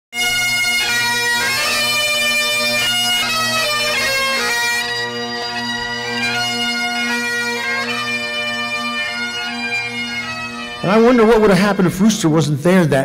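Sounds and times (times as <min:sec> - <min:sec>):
bagpipes playing: 0:00.2 - 0:12.8.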